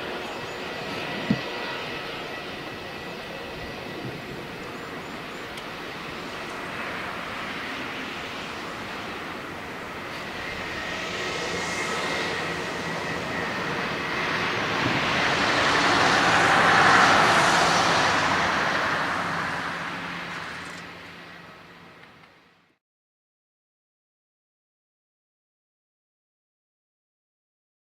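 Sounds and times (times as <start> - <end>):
jet engines roaring: 0.0 - 22.5.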